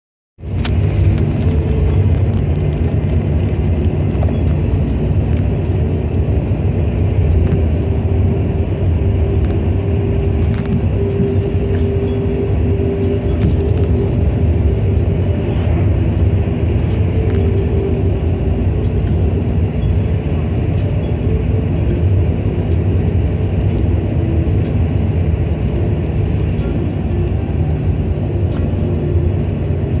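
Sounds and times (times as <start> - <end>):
vehicle road and engine rumble: 0.4 - 30.0.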